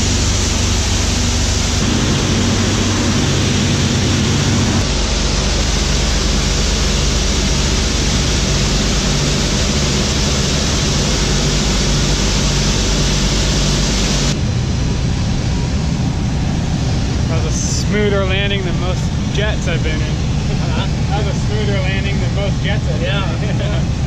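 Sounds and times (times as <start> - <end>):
bomber engines droning: 0.0 - 24.0
rushing air noise: 0.0 - 24.0.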